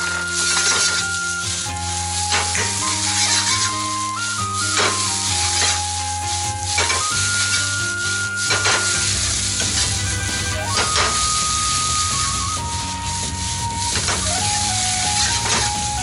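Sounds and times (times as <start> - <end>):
rice sizzling in a wok: 0.0 - 15.7.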